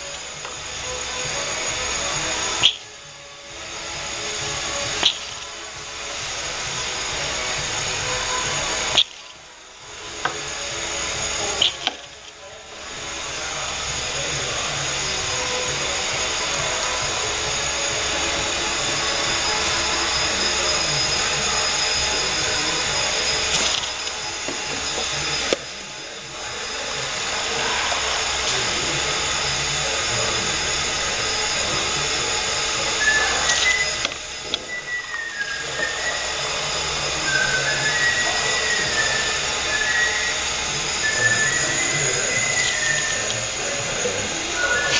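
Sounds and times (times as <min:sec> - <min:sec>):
vacuum machine hiss and whir: 0:00.0 - 0:44.9.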